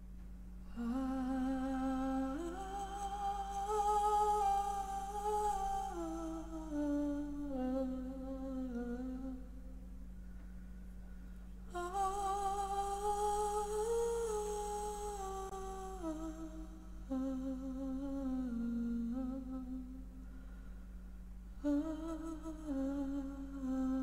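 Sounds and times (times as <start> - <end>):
steady low hum: 0.0 - 24.0
woman humming: 0.7 - 9.8, 11.7 - 20.1, 21.6 - 24.0.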